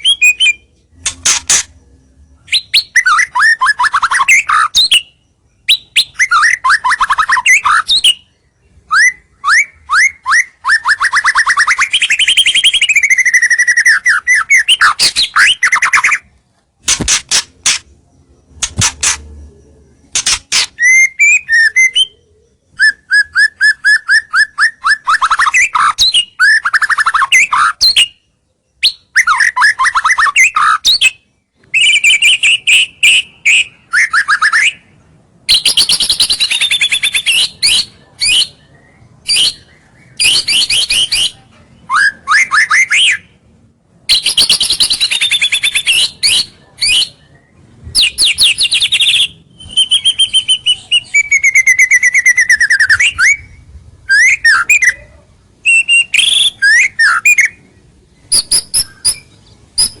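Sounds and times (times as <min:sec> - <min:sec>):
songbird singing trills and whistles: 0:00.0 - 1:00.0.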